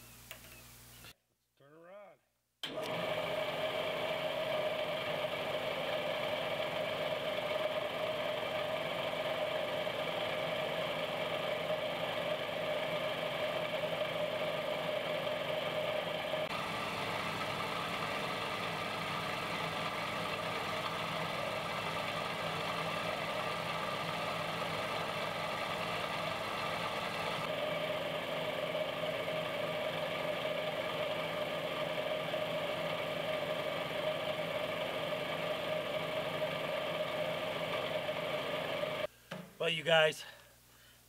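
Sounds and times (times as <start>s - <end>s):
air compressor running: 2.6s - 39.1s.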